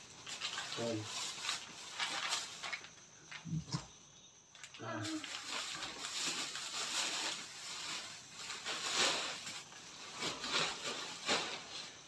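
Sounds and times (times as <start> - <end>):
plastic bags rustling: 0.0 - 3.4, 4.5 - 12.0.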